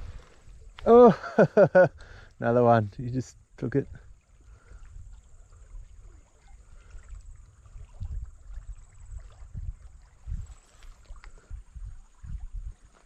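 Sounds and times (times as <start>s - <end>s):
faint river water: 0.0s - 13.0s.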